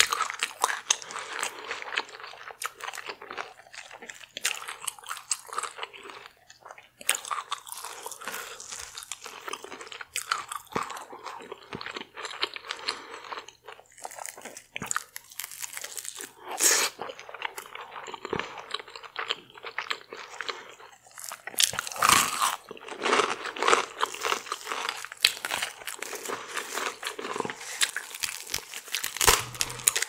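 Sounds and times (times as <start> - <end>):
person chewing crunchy food: 0.0 - 30.0.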